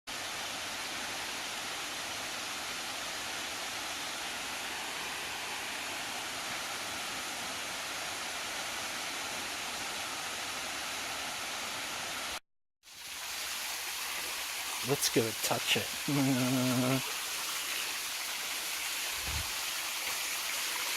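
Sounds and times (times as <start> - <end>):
small waterfall rushing: 0.1 - 20.9.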